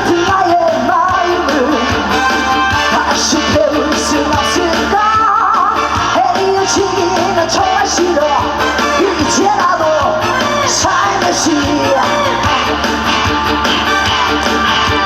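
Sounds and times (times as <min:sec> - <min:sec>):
amplified backing music: 0:00.0 - 0:15.0.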